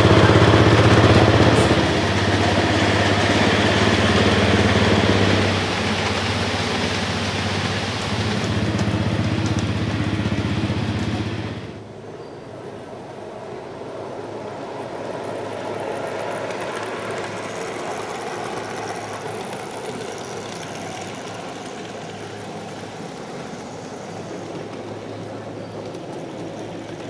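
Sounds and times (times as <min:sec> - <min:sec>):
miniature locomotive running: 0:00.0 - 0:12.0, 0:12.6 - 0:27.0.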